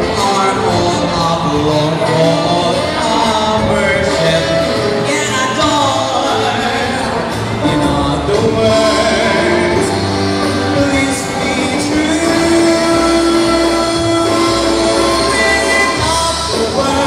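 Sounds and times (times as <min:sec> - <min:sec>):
instrumental backing track: 0:00.0 - 0:17.0
man singing into a microphone: 0:00.0 - 0:17.0.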